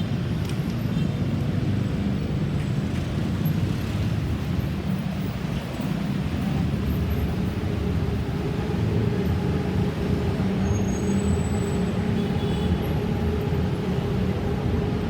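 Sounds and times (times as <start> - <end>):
heavy vehicles passing close: 0.0 - 15.0
road traffic rumble: 0.0 - 15.0.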